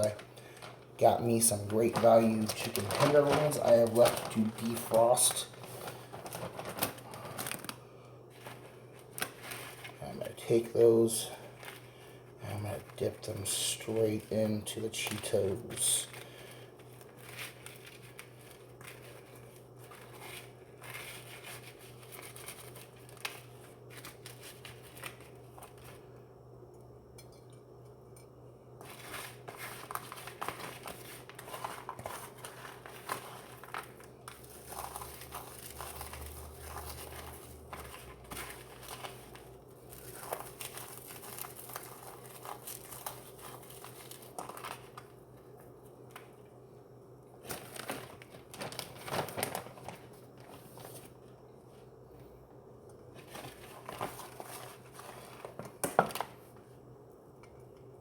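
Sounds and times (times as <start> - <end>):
crunching and crinkling crumbs: 0.0 - 26.2, 28.8 - 46.6, 47.3 - 52.3, 53.0 - 56.7.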